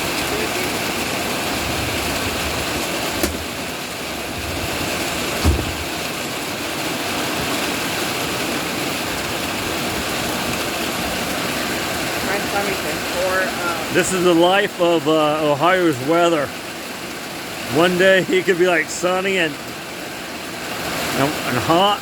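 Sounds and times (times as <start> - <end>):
rain pouring down: 0.0 - 22.0.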